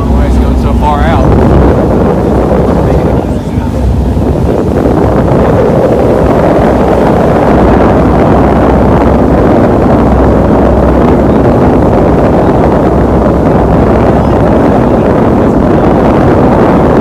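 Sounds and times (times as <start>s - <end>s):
boat engine rumble: 0.0s - 17.0s
water rushing: 0.0s - 17.0s
wind buffeting microphone: 0.0s - 17.0s.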